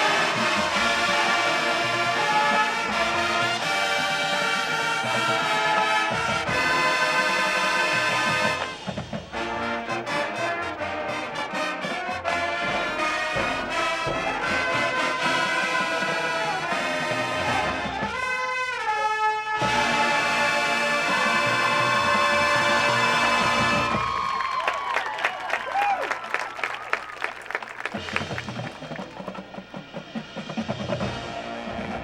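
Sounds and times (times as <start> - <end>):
marching band playing: 0.0 - 32.0.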